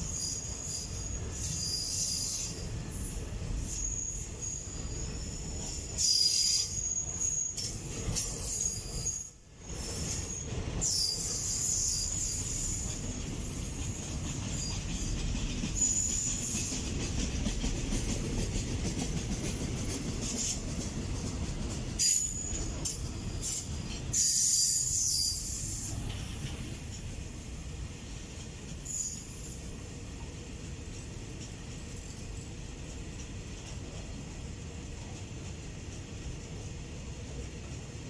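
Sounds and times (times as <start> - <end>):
train wheels squealing: 0.0 - 32.5
freight train wagons rumbling: 0.0 - 38.0.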